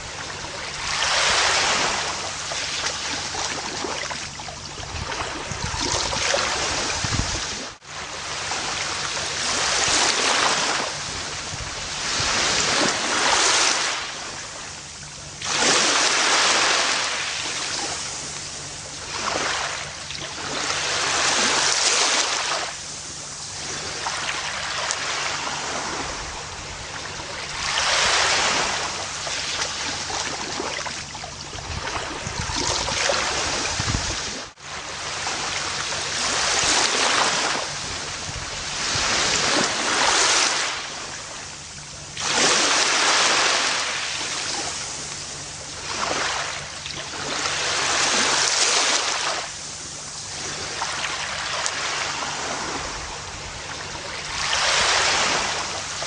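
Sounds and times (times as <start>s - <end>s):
ocean waves washing onto beach: 0.0s - 56.0s.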